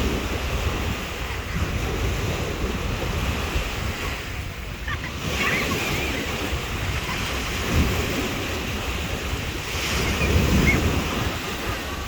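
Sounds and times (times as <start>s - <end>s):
sea waves on shore: 0.0s - 12.0s
wind rumbling on microphone: 0.0s - 12.0s.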